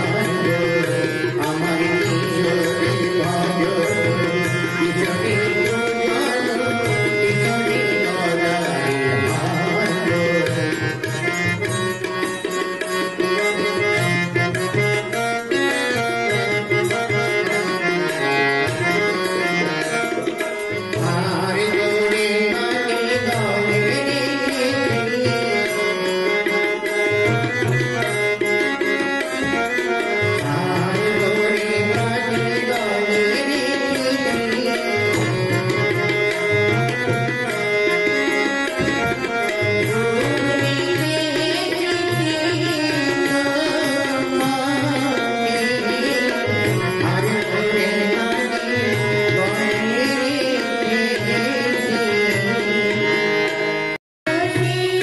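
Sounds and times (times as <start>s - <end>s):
person singing devotional song: 0.0s - 55.0s
tabla accompaniment: 0.0s - 55.0s.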